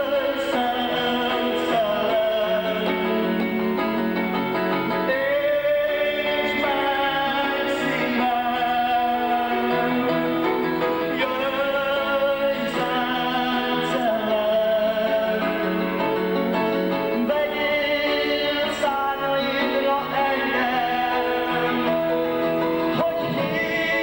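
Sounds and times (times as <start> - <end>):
electronic keyboard chords: 0.0 - 24.0
man singing: 0.0 - 24.0.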